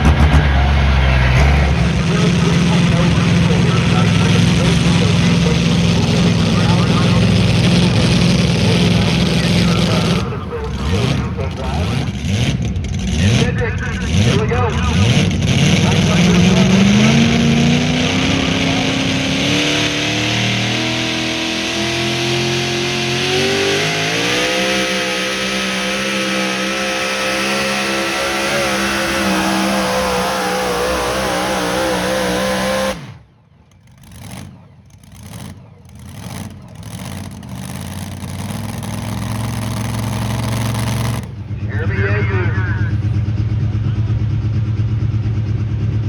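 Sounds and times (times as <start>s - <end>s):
truck engine at full throttle: 0.0s - 46.0s.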